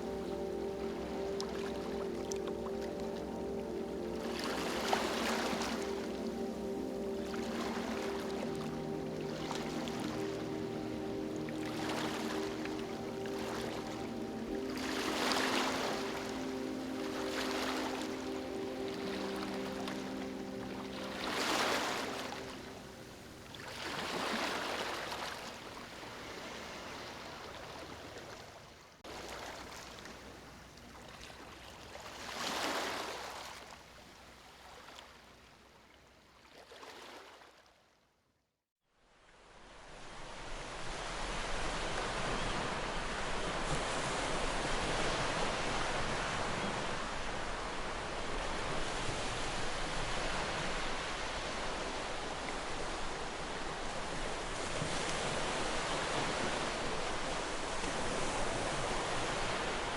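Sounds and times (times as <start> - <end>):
sea waves washing in: 0.0 - 30.4, 39.4 - 59.9.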